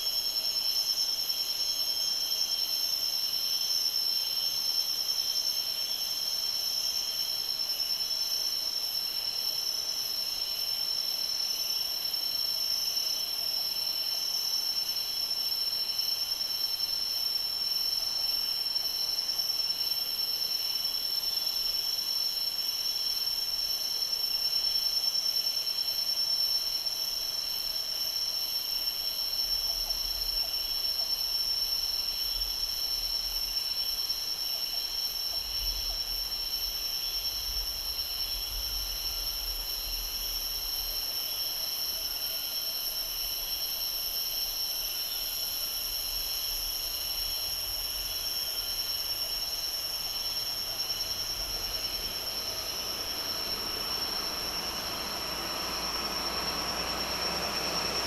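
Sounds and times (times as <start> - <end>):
high-pitched insect drones: 0.0 - 58.0
low insect drone: 0.0 - 58.0.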